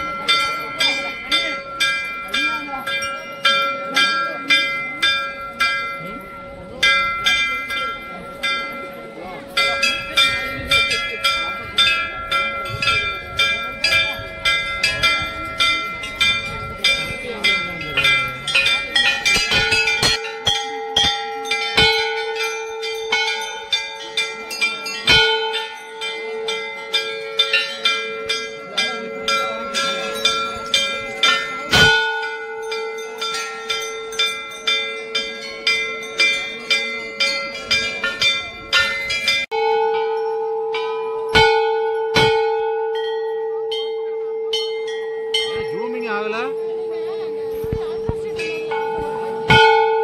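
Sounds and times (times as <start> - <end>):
temple bells ringing: 0.0 - 50.0.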